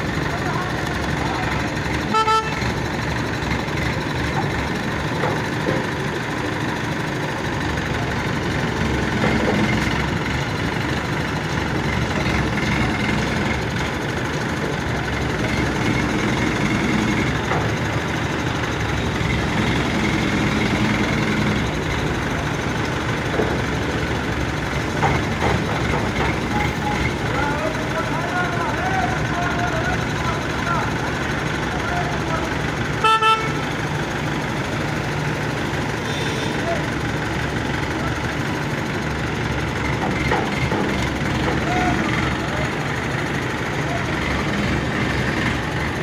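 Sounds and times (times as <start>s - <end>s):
crane diesel engines running: 0.0s - 46.0s.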